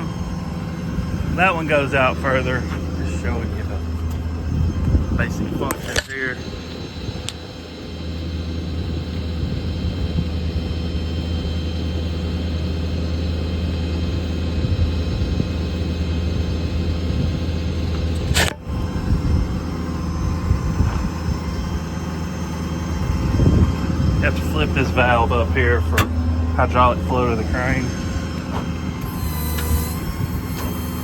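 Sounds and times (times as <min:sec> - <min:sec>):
diesel engine low drone: 0:00.0 - 0:31.0.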